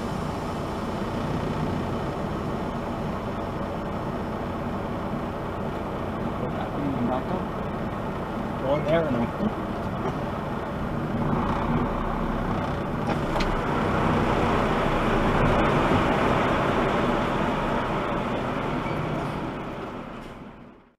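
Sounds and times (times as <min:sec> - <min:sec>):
car engine: 0:00.0 - 0:20.9.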